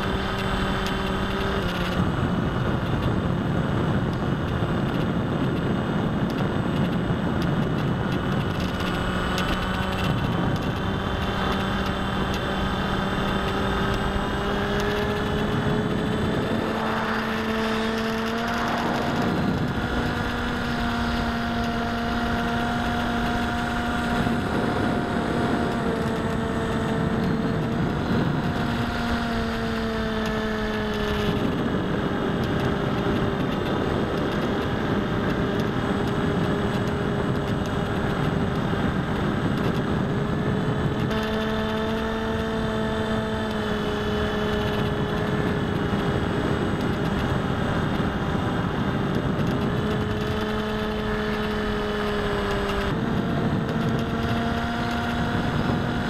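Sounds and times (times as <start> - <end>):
electric motor and propeller humming: 0.0 - 56.0.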